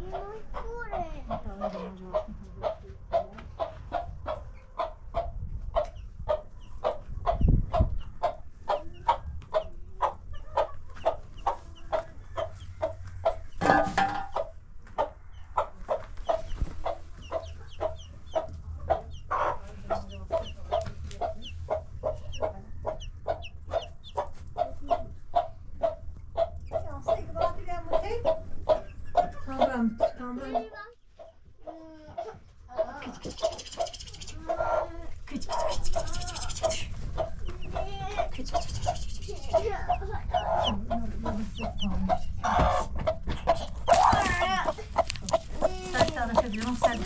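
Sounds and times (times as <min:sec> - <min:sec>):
hen clucking: 0:00.0 - 0:47.0.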